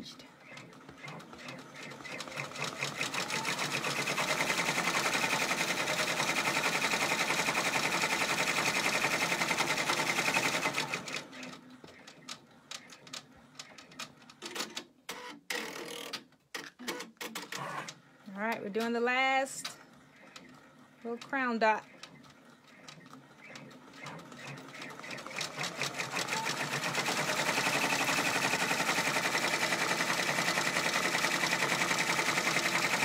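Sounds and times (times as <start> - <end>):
embroidery machine stitching: 0.4 - 19.0, 19.7 - 33.0.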